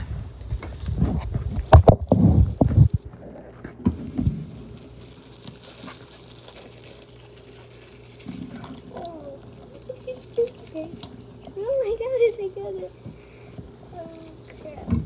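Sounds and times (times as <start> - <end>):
low steady hum: 0.0 - 15.0
plastic bag crinkling: 0.6 - 3.1, 3.9 - 15.0.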